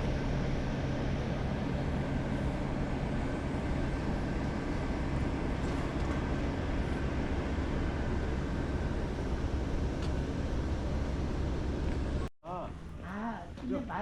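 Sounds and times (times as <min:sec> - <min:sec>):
moving vehicle rumble: 0:00.0 - 0:13.1.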